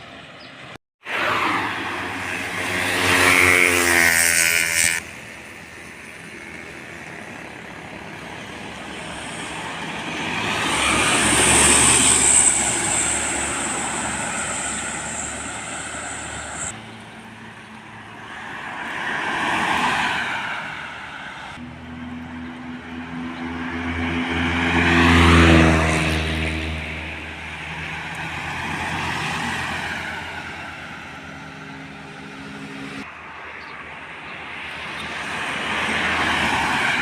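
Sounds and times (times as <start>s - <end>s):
heavy trucks passing: 0.0s - 37.0s.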